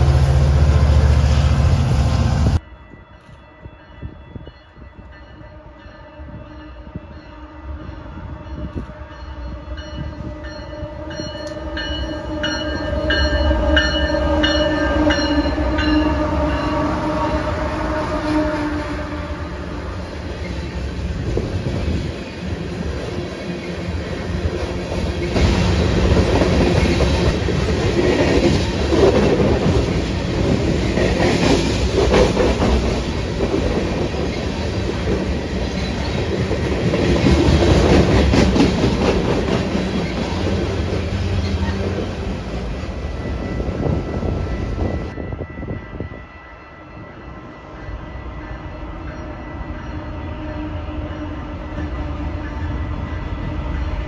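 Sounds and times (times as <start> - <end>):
distant train rumble: 0.0 - 54.0
freight train rumbling past: 0.0 - 54.0.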